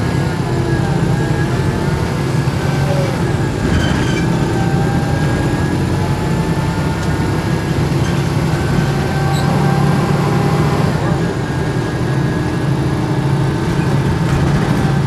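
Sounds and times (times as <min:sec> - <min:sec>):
bus engine drone: 0:00.0 - 0:15.0
gearbox whine: 0:00.0 - 0:15.0.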